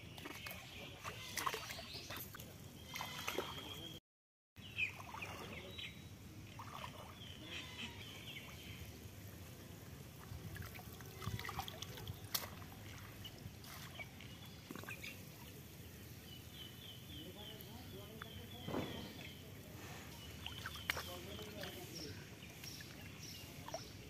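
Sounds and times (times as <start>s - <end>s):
birds chirping: 0.0s - 4.0s, 4.6s - 24.0s
water sloshing and trickling: 0.0s - 4.0s, 4.6s - 24.0s.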